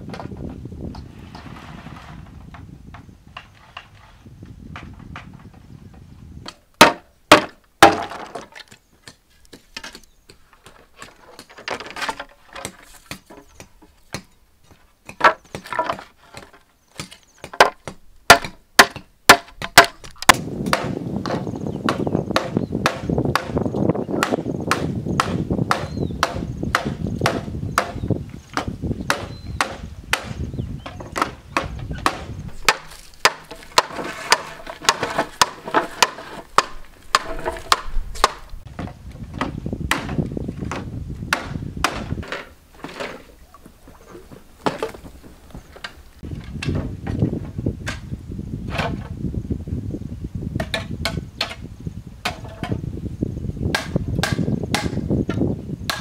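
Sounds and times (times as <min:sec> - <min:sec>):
bamboo poles clacking: 0:04.8 - 0:48.1, 0:50.6 - 0:52.8, 0:53.7 - 0:56.0.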